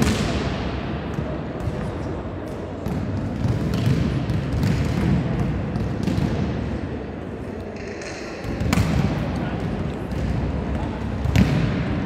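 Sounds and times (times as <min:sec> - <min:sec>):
volleyballs hit and bouncing: 0:00.0 - 0:12.0.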